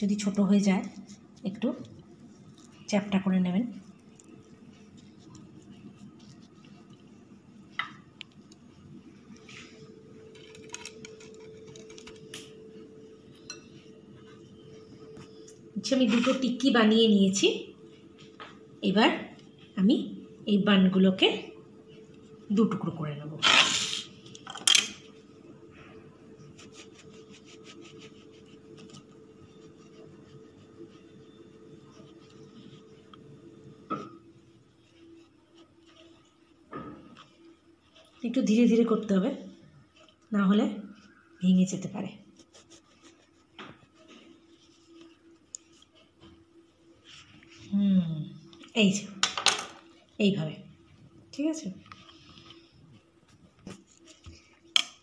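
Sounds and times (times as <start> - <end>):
steady low hum: 0.0 - 23.4, 24.0 - 55.0.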